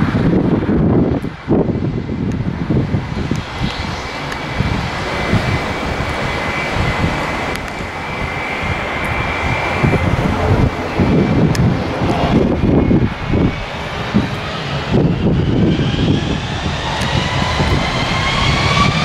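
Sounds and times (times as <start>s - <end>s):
jet engines rolling on runway: 0.0s - 19.0s
wind rumble on microphone: 0.0s - 19.0s.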